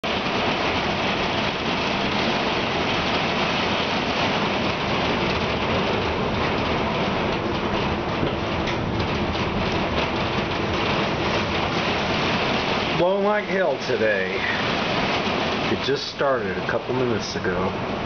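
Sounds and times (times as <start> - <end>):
heavy rain against a window: 0.0 - 18.0.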